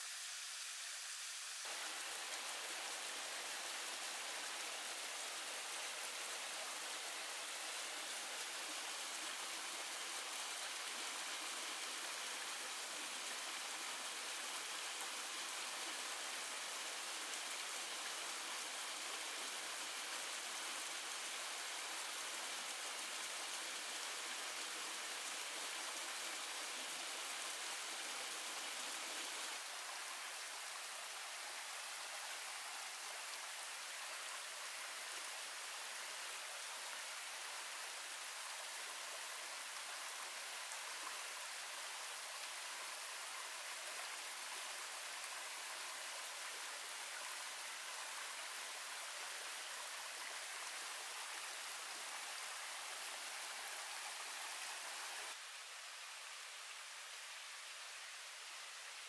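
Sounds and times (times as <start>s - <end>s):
running water hiss: 0.0s - 59.0s.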